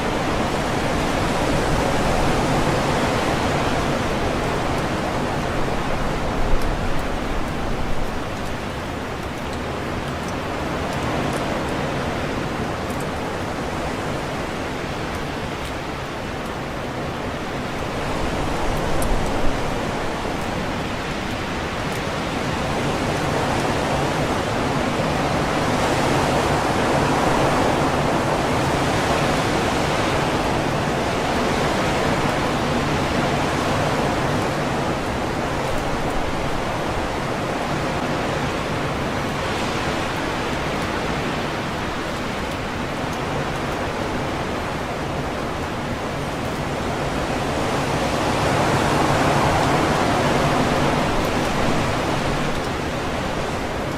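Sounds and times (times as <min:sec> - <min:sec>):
wind gusting through trees: 0:00.0 - 0:53.9.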